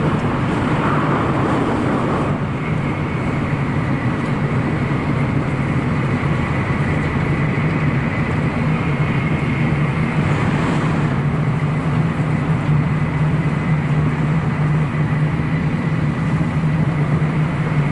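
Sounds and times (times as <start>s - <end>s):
train rumble from inside: 0.0s - 17.9s.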